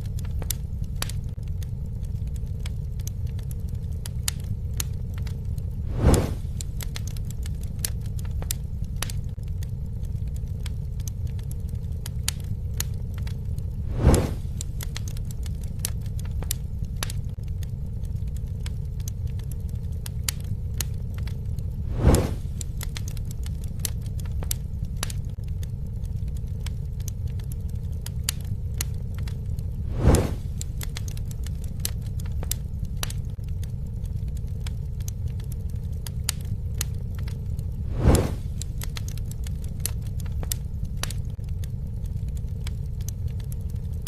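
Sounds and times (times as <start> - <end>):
fire whoosh: 0.0 - 43.9
low rumble of flames: 0.0 - 44.0
wood campfire crackling: 0.0 - 44.0.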